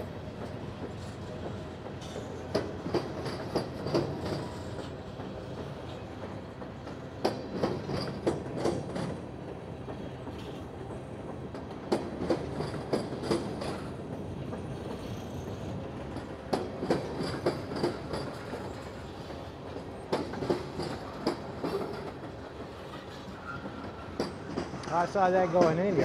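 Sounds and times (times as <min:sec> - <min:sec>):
wheels clacking over rail joint: 0:00.3 - 0:26.0.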